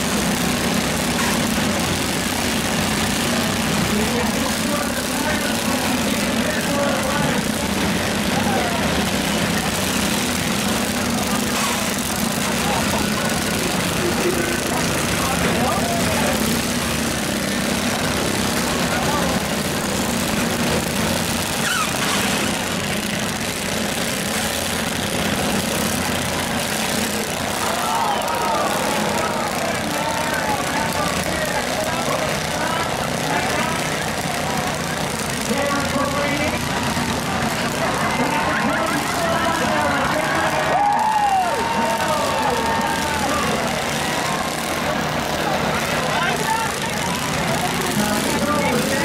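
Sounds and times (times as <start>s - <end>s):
crowd chatter: 0.0s - 49.0s
lawn mower engines humming: 0.0s - 49.0s.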